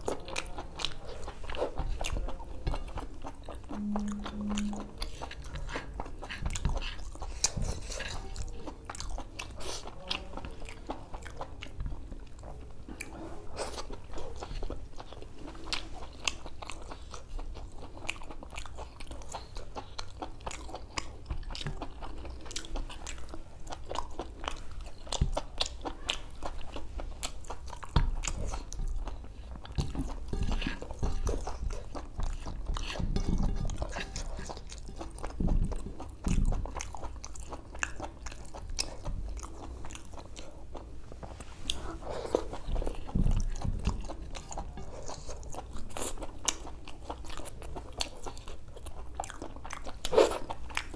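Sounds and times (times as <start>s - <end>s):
chewing and wet mouth smacking: 0.0s - 50.9s.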